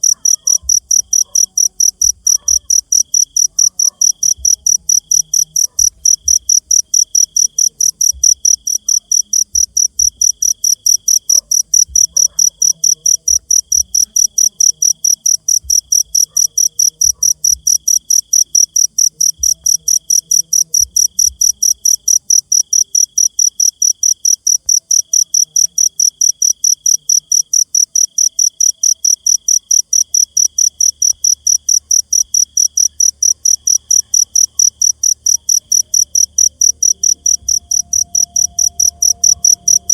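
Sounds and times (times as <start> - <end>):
cricket chirping: 0.0 - 39.9
low insect trill: 0.0 - 39.9.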